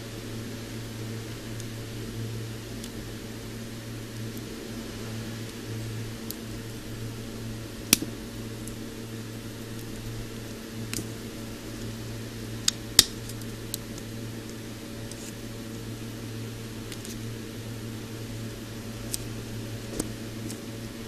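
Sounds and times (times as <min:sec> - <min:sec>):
low mains hum: 0:00.0 - 0:21.0.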